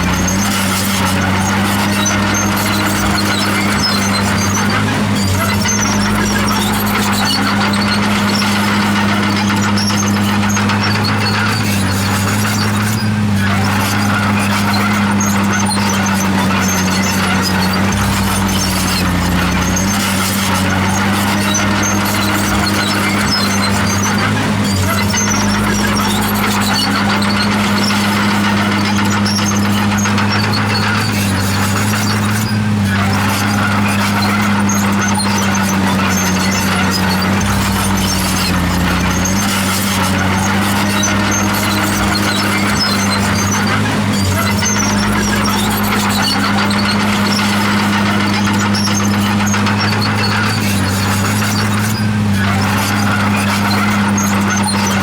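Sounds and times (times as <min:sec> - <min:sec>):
bulldozer diesel engine humming: 0:00.0 - 0:55.0
steel tracks squeaking and clinking: 0:00.0 - 0:55.0.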